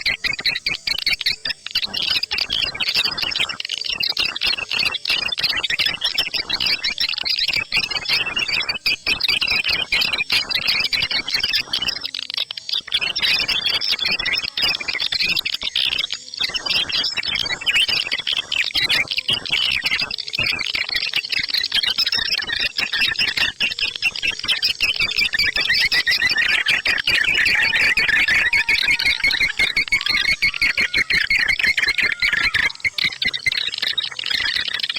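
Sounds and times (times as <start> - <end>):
swiftlets chirping and twittering: 0.0 - 34.9.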